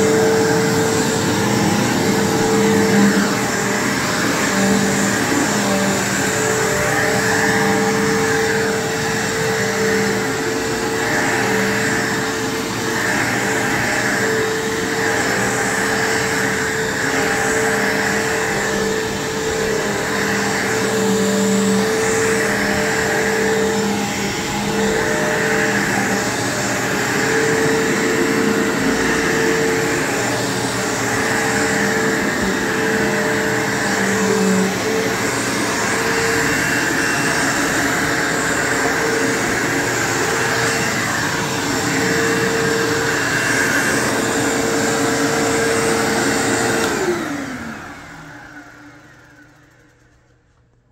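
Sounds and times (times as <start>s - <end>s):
vacuum motor winding down: 0.0s - 50.6s
vacuum cleaner running on carpet: 0.0s - 50.9s.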